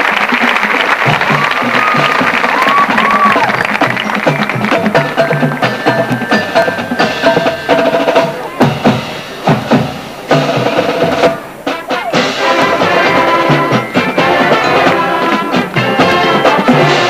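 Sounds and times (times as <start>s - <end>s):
snare and bass drums: 0.2s - 17.0s
bugles holding long notes: 0.4s - 17.0s.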